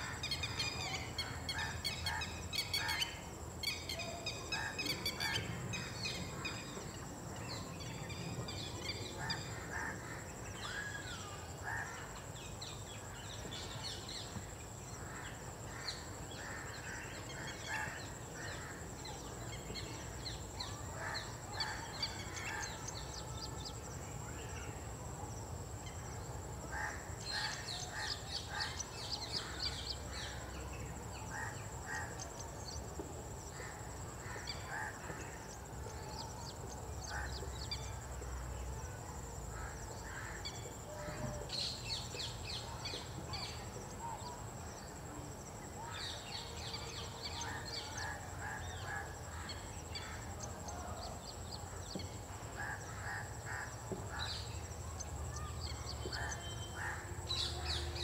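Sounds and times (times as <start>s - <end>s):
wild birds chirping: 0.0s - 58.0s.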